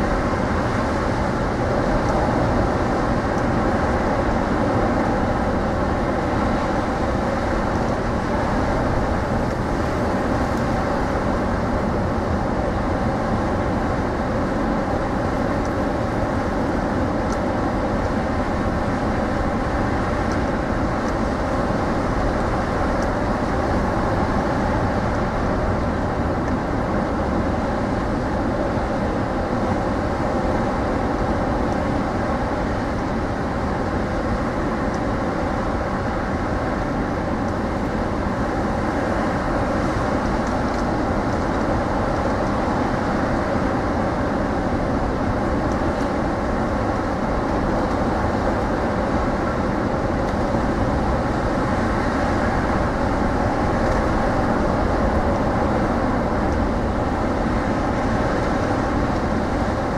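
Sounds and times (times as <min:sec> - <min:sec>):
rough ocean surf: 0:00.0 - 0:59.9.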